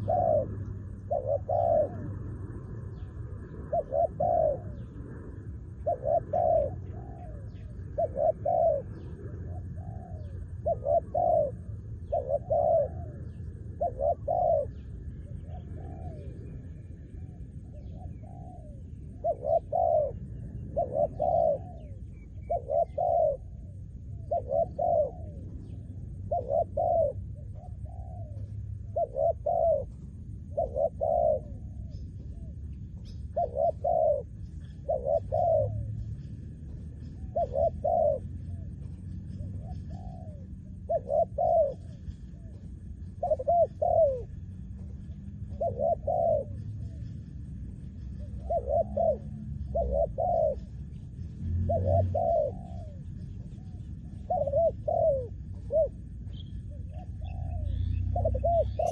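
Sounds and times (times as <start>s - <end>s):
dove cooing: 0.0s - 58.9s
steady low rumble: 0.0s - 58.9s.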